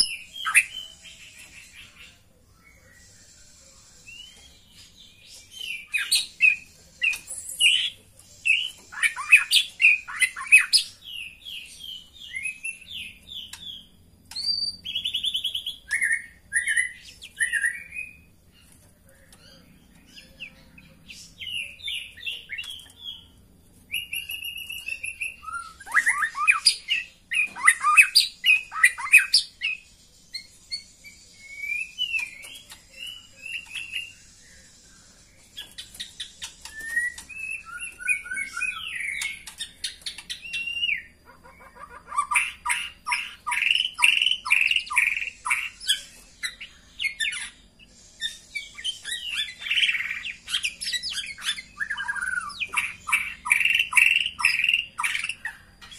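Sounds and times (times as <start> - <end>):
bird whistling and chattering: 0.0 - 2.0, 5.4 - 18.3, 23.9 - 34.2, 35.6 - 55.9.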